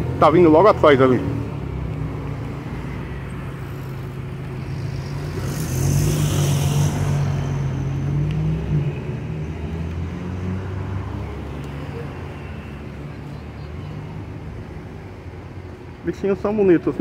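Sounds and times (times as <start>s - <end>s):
bus engine low hum: 0.0s - 16.0s.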